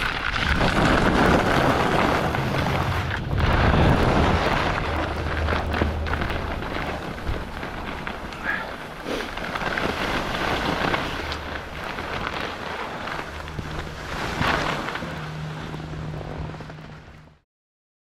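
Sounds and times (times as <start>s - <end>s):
skis scraping over snow: 0.0s - 17.4s
wind on microphone: 0.0s - 17.4s
low steady hum: 0.1s - 17.4s.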